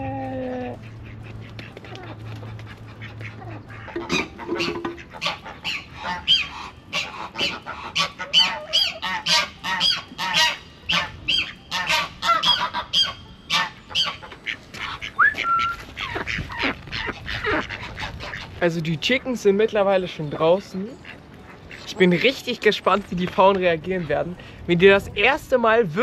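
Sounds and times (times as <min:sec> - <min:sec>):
ducks quacking: 0:00.0 - 0:24.6.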